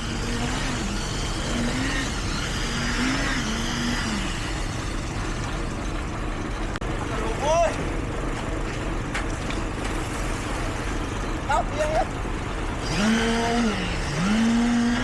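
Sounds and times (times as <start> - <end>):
heavy vehicle engines running: 0.0 - 15.0.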